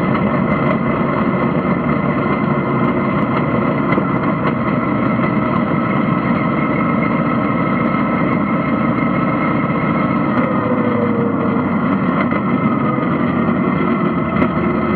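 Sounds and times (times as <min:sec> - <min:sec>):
race car engine running hard: 0:00.0 - 0:14.9.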